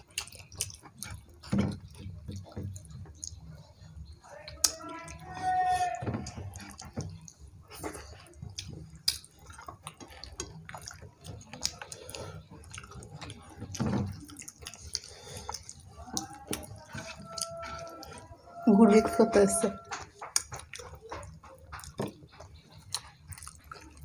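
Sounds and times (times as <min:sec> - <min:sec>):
fingers mixing food on plates: 0:00.0 - 0:24.0
mouths chewing: 0:00.0 - 0:24.0.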